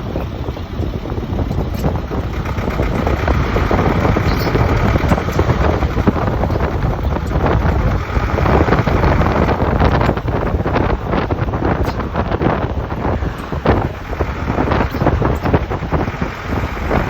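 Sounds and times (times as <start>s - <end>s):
dense irregular rattle: 0.0s - 17.0s
truck engine running: 0.0s - 17.0s.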